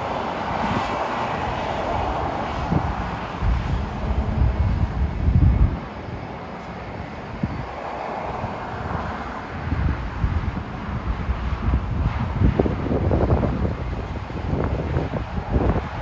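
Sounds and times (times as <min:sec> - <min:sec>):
jet engine noise: 0:00.0 - 0:16.0
wind buffeting microphone: 0:00.0 - 0:16.0.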